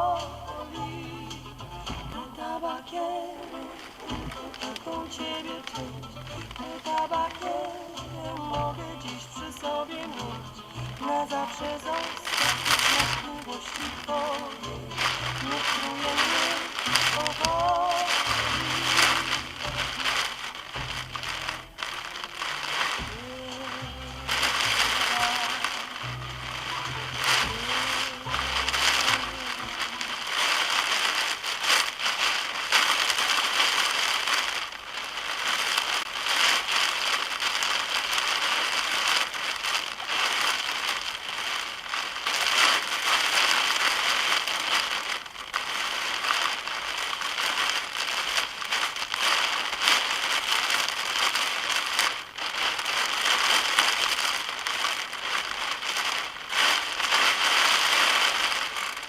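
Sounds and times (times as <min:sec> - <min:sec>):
heavy rain on car roof: 0:03.1 - 0:59.0.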